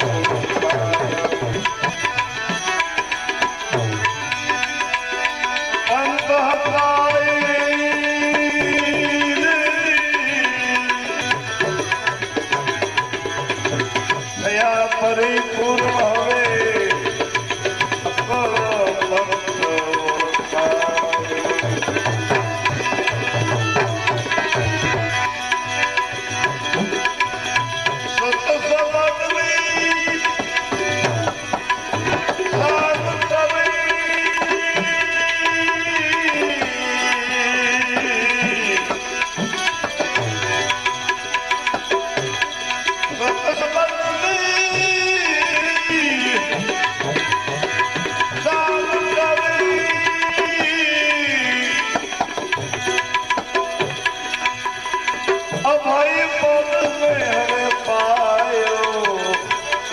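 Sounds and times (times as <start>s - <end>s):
tabla playing a rhythm: 0.0s - 59.9s.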